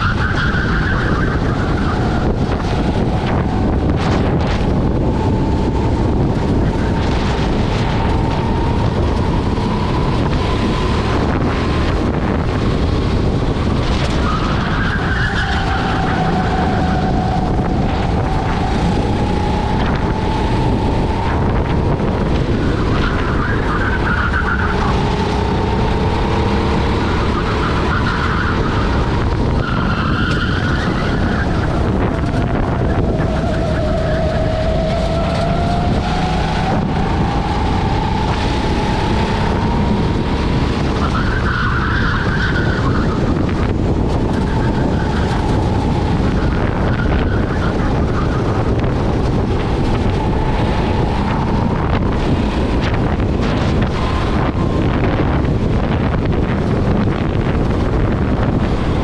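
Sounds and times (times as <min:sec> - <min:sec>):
kart engine revving: 0:00.0 - 0:59.0
wind buffeting microphone: 0:00.0 - 0:59.0.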